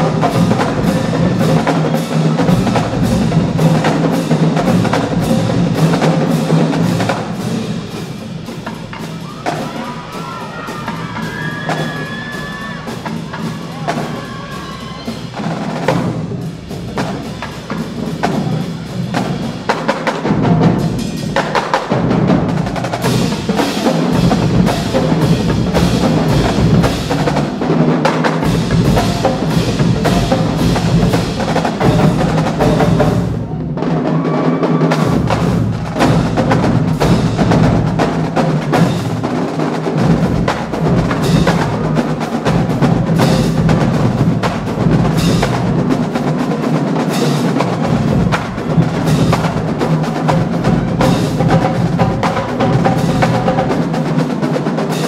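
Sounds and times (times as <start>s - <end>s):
marching drumline playing: 0.0s - 55.0s.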